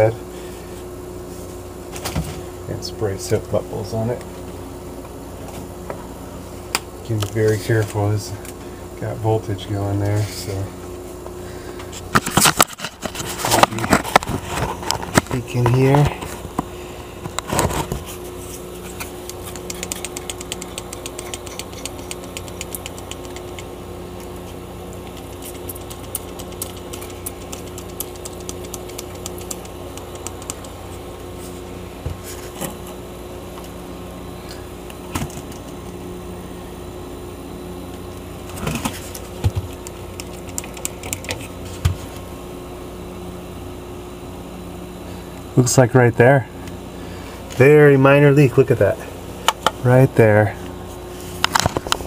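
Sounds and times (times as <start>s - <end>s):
refrigerator compressor humming: 0.0s - 52.0s.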